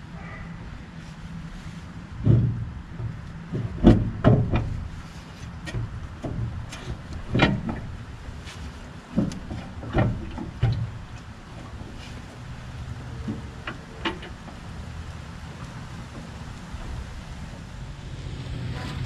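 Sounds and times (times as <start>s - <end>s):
metal engine parts clunking: 2.1s - 17.7s.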